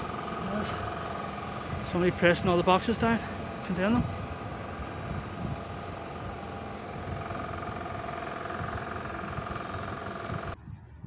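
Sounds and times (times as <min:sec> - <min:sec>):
mechanical hum with whine: 0:00.0 - 0:11.0.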